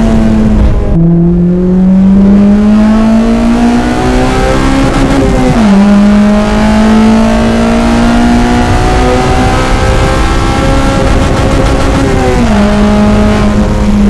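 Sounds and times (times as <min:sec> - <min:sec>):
car engine revving through gears: 0:00.0 - 0:14.0.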